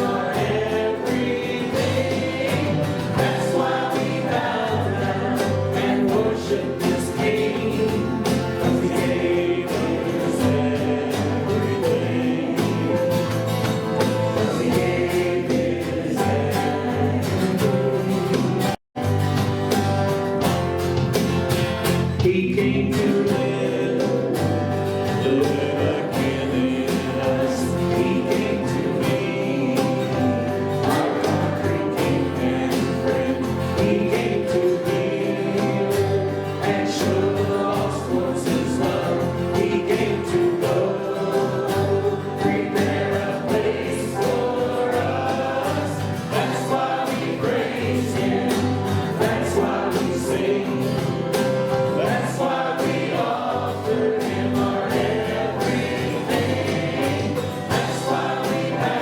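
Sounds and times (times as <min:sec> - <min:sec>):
voices singing together: 0:00.0 - 0:18.8, 0:19.7 - 0:59.0
band instruments and drums: 0:00.0 - 0:59.0.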